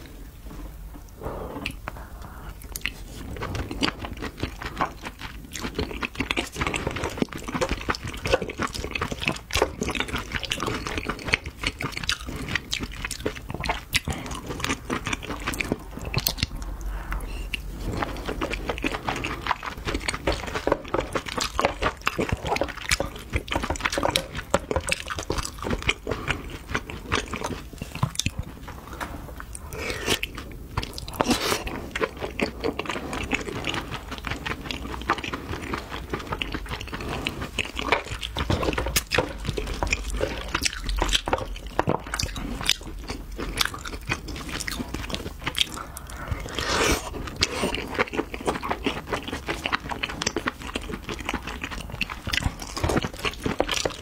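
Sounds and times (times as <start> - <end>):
wet chewing clicks and smacks: 2.6 - 54.0.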